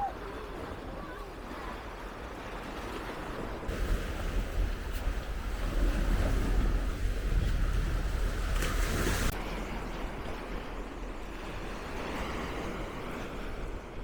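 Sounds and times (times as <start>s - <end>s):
small surf washing on beach: 0.0s - 14.0s
wind buffeting microphone: 0.0s - 14.0s.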